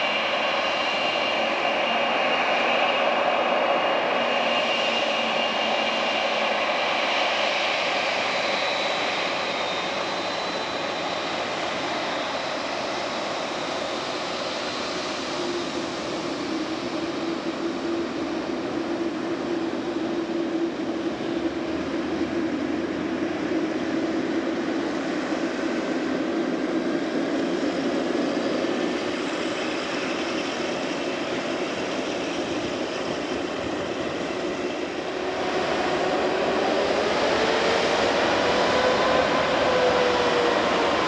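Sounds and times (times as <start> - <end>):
jet engines whining: 0.0 - 41.0.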